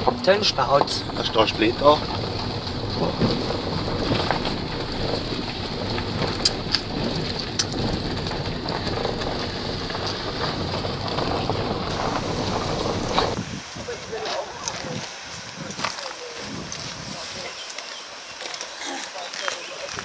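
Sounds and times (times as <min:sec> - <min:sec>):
tyres crunching on gravel: 0:00.0 - 0:20.0.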